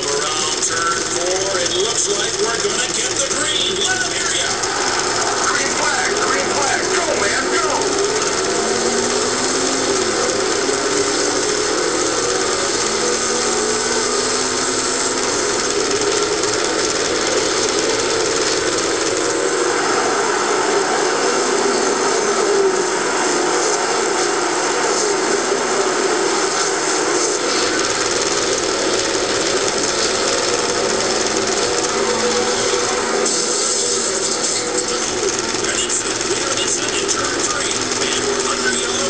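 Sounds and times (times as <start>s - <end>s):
race car engine from small speaker: 0.0s - 39.0s.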